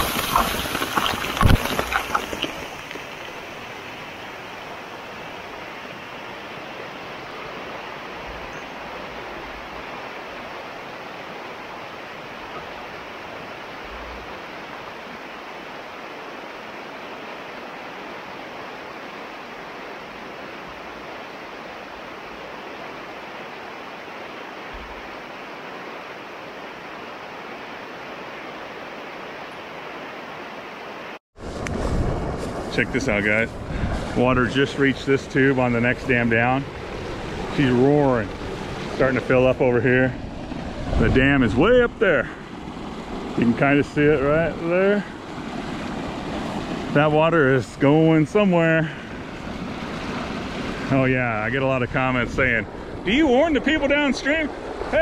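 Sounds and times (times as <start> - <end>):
water rushing through a breach: 0.0 - 30.1, 31.4 - 55.0.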